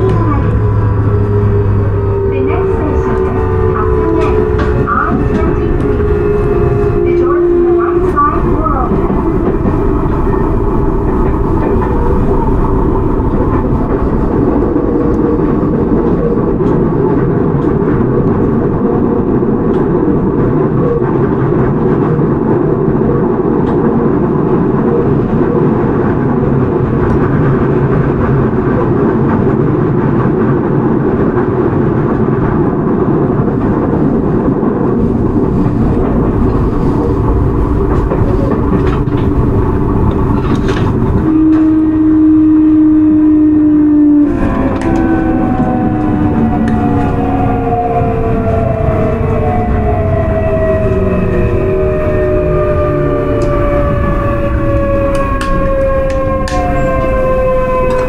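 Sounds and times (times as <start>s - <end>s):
rail joint clicks: 0.0s - 58.0s
subway wheels rumbling on rail: 0.0s - 58.0s.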